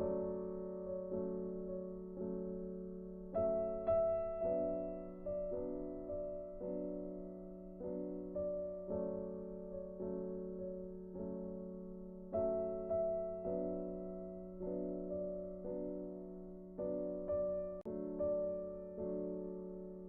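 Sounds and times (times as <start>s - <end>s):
soft slow piano chords: 0.0s - 20.0s.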